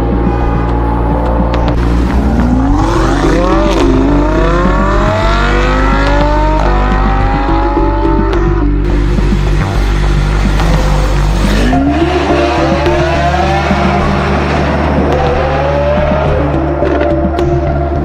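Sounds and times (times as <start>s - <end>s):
low engine hum: 0.0s - 18.0s
racing car engine accelerating: 0.0s - 18.0s.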